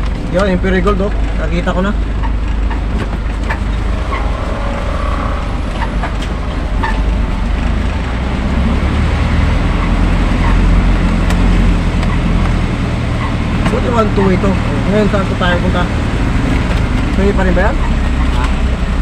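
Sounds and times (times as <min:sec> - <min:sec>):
road noise inside cab: 0:00.0 - 0:19.0
truck engine running: 0:00.0 - 0:19.0.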